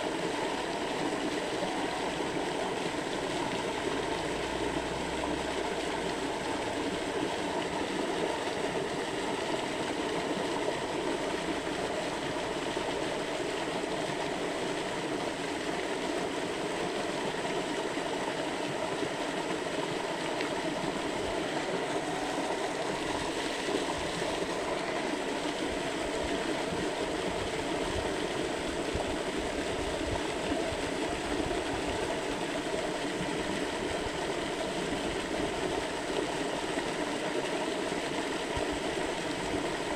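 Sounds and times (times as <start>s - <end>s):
shallow river water flowing: 0.0s - 39.9s.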